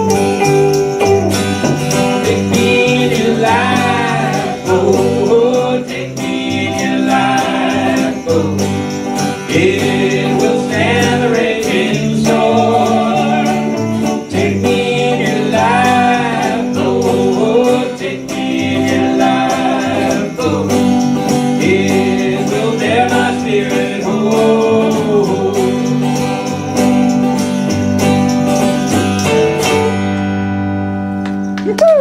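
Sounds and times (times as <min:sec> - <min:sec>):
live band playing gospel song: 0:00.0 - 0:31.5.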